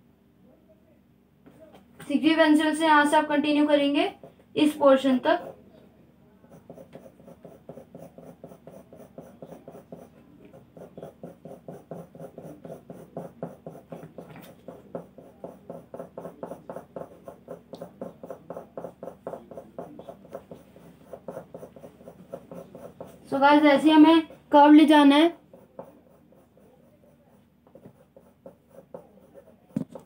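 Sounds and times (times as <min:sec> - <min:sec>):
pencil shading on paper: 0:04.0 - 0:05.7, 0:06.4 - 0:30.0.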